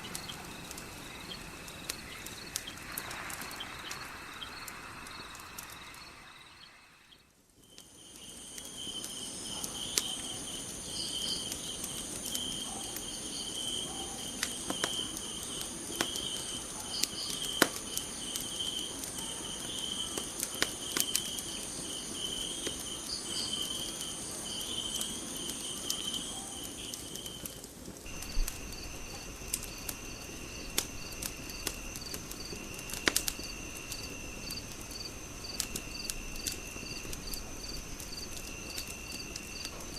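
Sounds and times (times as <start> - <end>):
crickets chirping: 0.0 - 39.9
insect chirps: 0.0 - 39.9
wood fire crackling: 0.0 - 39.9.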